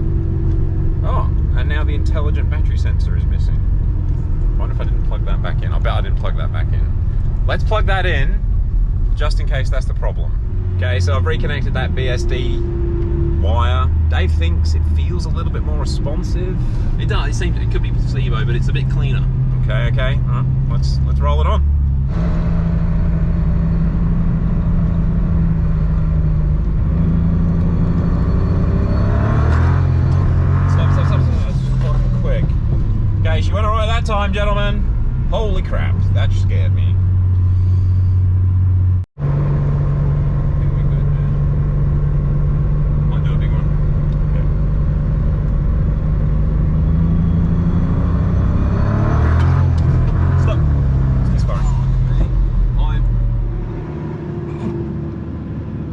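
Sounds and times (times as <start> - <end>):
road rumble: 0.0 - 55.9
car engine pulling under load: 10.2 - 55.9.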